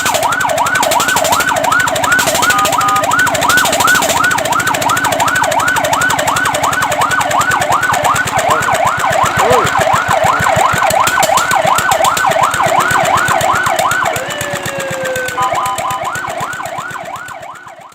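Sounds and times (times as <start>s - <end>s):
engine running: 0.0s - 17.9s
fire truck siren: 0.0s - 17.9s.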